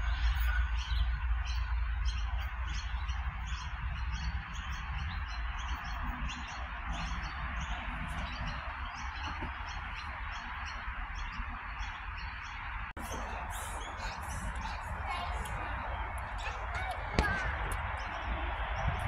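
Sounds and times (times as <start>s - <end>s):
birds chirping: 0.0s - 19.0s
electric train rumbling: 0.0s - 19.0s.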